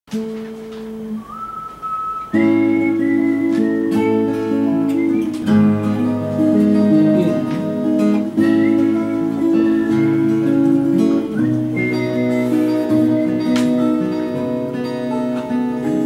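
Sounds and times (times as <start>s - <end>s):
acoustic guitars strumming: 0.1s - 16.0s.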